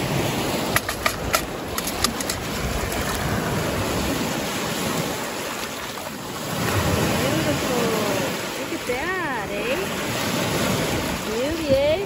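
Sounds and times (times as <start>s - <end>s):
waves lapping on pebble beach: 0.0s - 12.0s.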